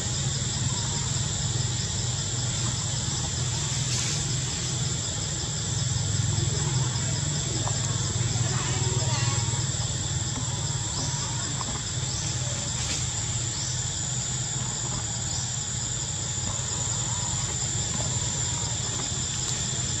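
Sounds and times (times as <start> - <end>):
high-pitched insect drone: 0.0 - 20.0
low steady rumble: 0.0 - 20.0.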